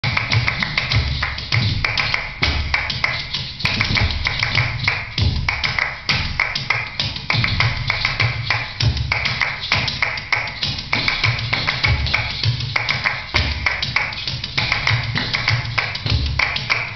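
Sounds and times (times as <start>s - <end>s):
feet striking wooden stage: 0.0s - 16.9s
music with deep beat: 0.0s - 16.9s.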